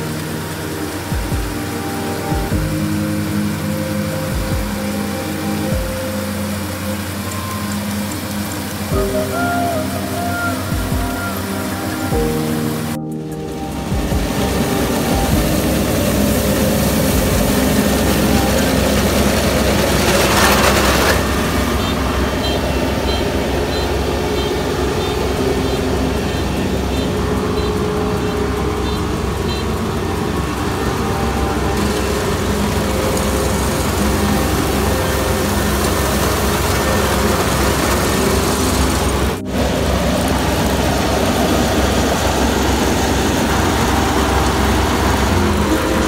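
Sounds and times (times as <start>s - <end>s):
combine harvester engine humming: 0.0s - 46.0s
rush of noise: 0.0s - 46.0s.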